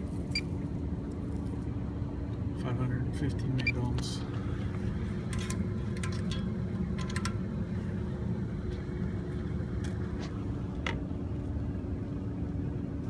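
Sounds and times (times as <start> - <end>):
constant hum: 0.0 - 13.0
low background rumble: 0.0 - 13.0.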